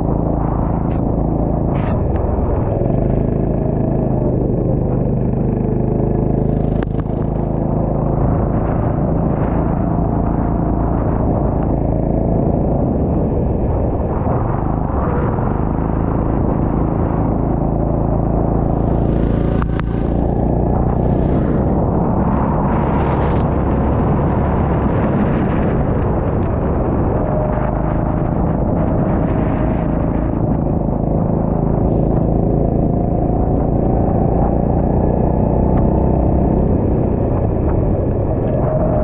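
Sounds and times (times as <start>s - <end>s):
go-kart engine running: 0.0s - 39.0s.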